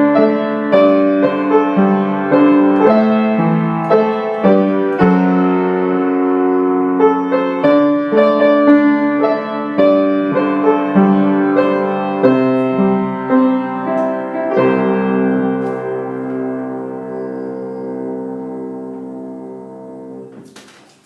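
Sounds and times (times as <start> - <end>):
slow solo piano melody: 0.0 - 20.4.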